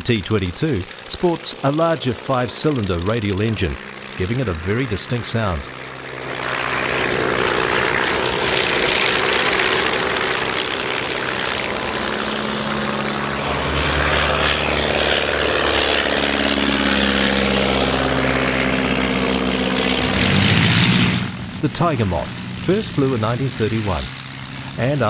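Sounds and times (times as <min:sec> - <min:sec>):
propeller plane engine fly-by: 0:00.0 - 0:25.0.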